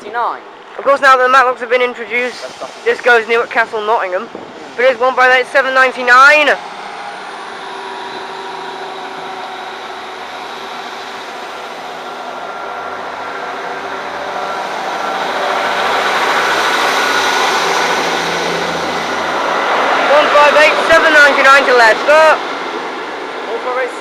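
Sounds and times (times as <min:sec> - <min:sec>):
diesel train engine and rail noise: 0:00.0 - 0:24.0.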